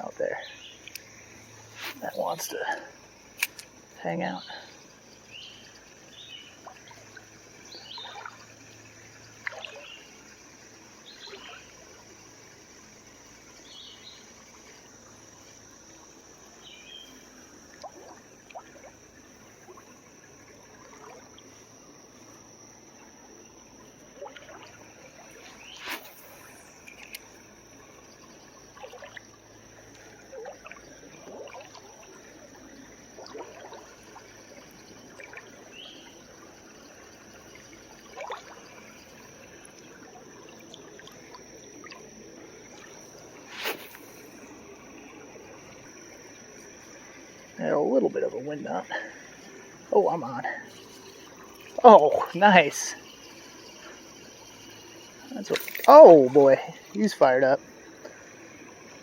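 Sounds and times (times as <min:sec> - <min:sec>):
creek trickling and burbling: 0:00.0 - 0:59.0
high-pitched insect drone: 0:00.0 - 0:59.0.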